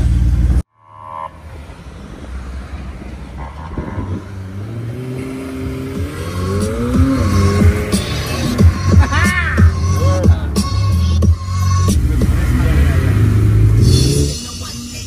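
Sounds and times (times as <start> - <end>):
car engine accelerating: 0.0 - 14.7
street traffic noise: 0.0 - 15.0.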